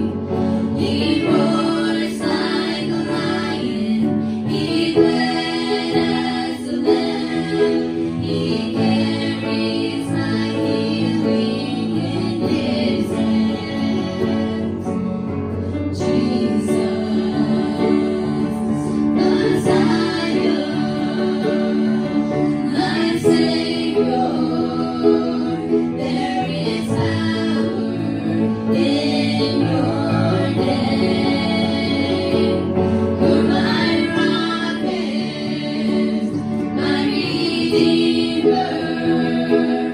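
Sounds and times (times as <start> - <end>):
instrumental backing: 0.0 - 39.9
woman and girls singing: 0.0 - 39.9.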